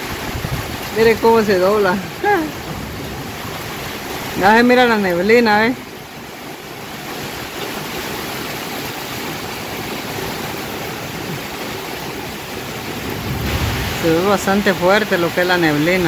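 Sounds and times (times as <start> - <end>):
heavy rain pouring: 0.0 - 16.0
strong wind through trees: 0.0 - 16.0.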